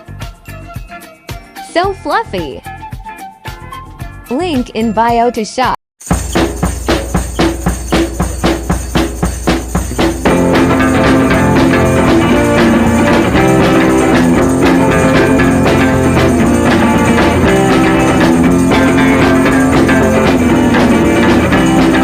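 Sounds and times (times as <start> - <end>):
upbeat guitar and drum music: 0.0 - 22.0.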